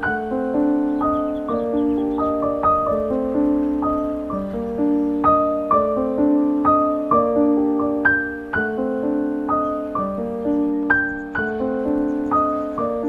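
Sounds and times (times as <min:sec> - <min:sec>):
gentle arpeggiated piano music: 0:00.0 - 0:13.0.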